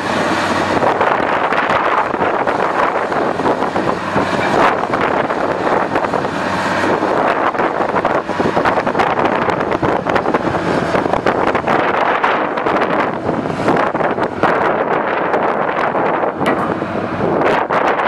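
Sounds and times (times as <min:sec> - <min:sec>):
excavator diesel engine humming: 0:00.0 - 0:18.0
wind buffeting microphone: 0:00.0 - 0:18.0.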